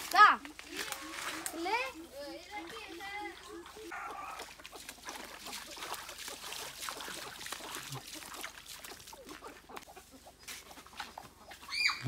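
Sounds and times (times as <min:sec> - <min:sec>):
leaves and twigs crackling underfoot: 0:00.0 - 0:06.2, 0:07.2 - 0:12.0.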